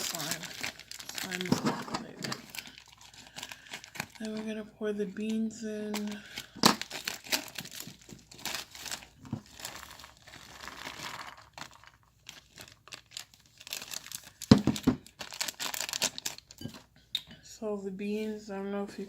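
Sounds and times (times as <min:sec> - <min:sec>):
plastic packet crinkling: 0:00.0 - 0:04.6, 0:05.2 - 0:16.8.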